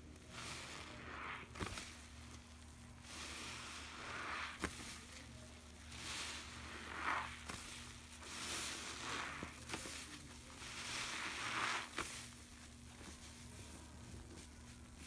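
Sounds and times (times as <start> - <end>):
sponge squelching in soapy water: 0.0 - 15.0.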